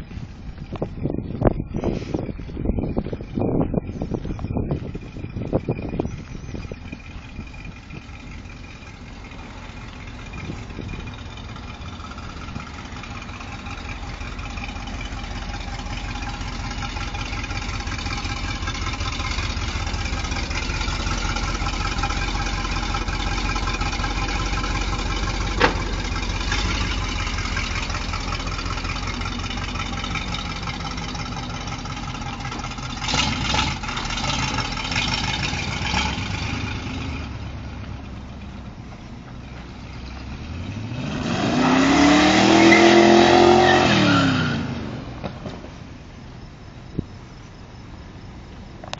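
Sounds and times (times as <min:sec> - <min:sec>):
car engine idling: 0:00.0 - 0:41.2, 0:44.7 - 0:48.9
engine bursts: 0:04.5 - 0:48.9.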